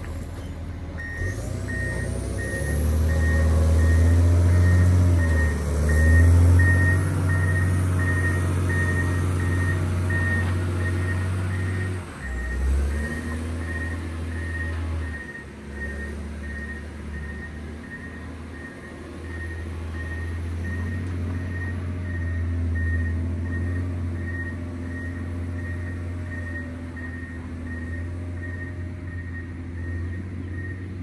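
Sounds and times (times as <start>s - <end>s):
diesel engine running: 0.0s - 31.0s
reversing alarm beeping: 0.4s - 31.0s.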